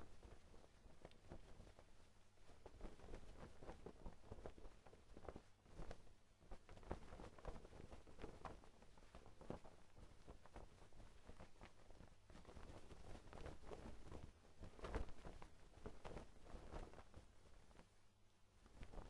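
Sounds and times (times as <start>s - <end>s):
laundry flapping in wind: 0.0s - 18.0s, 18.6s - 19.0s.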